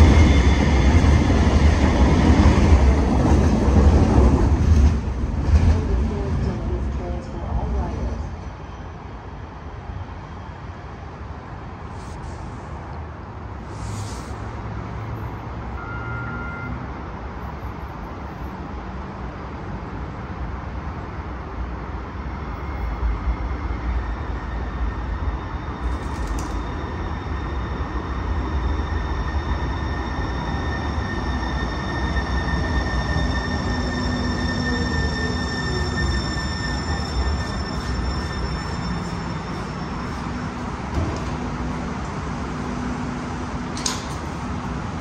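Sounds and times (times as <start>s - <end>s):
train rumble: 0.0s - 15.9s, 17.0s - 45.0s
high train whine: 0.0s - 45.0s.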